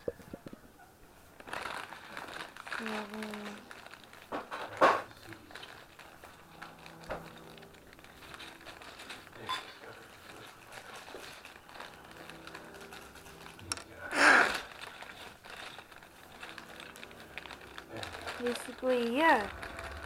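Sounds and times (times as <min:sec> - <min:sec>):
plastic bags rustling: 0:00.0 - 0:20.0.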